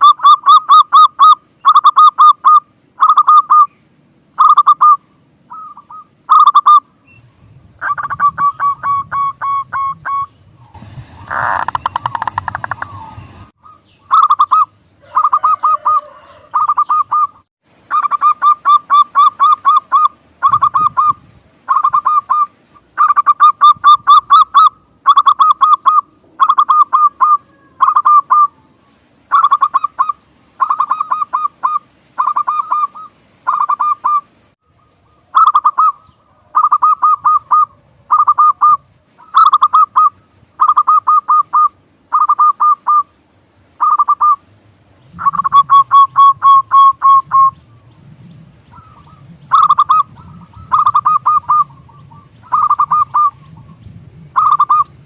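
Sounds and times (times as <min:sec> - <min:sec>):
dove cooing: 0:07.8 - 0:10.3, 0:11.2 - 0:43.1, 0:43.8 - 0:44.4, 0:45.1 - 0:55.0.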